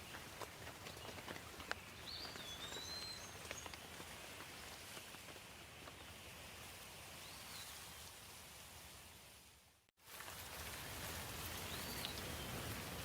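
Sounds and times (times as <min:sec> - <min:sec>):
light rain falling: 0:01.2 - 0:13.0.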